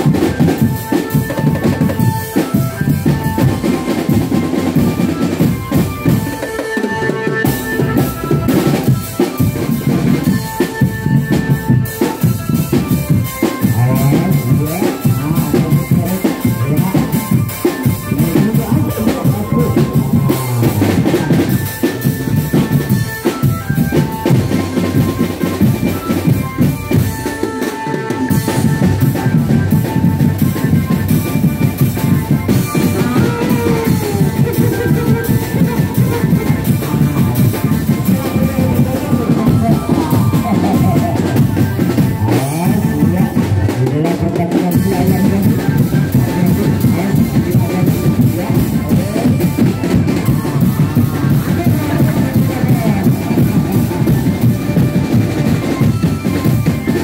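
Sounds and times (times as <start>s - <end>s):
drum-led percussion music: 0.0s - 57.0s.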